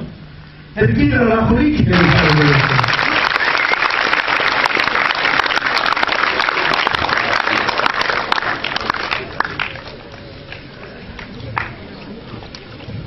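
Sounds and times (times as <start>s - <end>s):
audience applauding: 1.9s - 12.7s.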